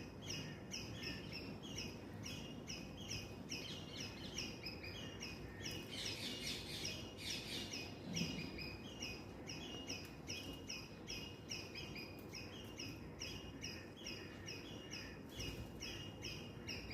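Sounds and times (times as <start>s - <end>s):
bird chirping: 0.0s - 16.9s.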